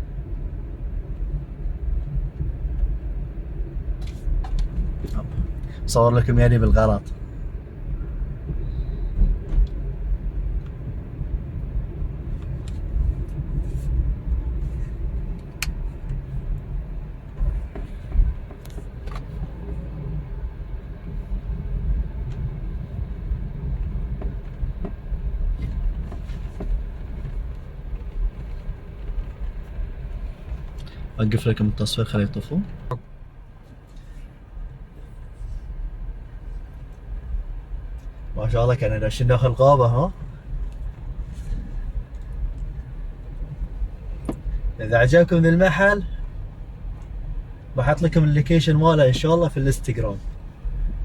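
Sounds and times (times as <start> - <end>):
moving car rumble: 0.0 - 51.0.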